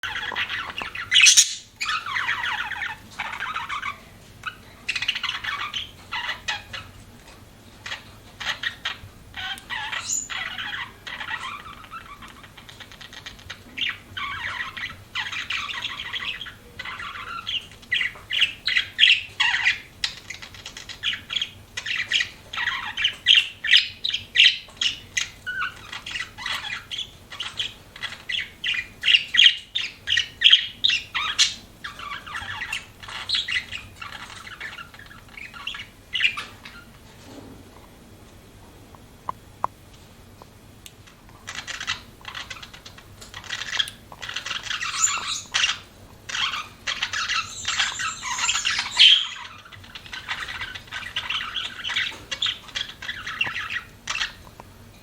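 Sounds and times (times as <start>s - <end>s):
budgerigars chirping: 0.0s - 7.0s, 7.8s - 36.9s, 41.5s - 54.4s.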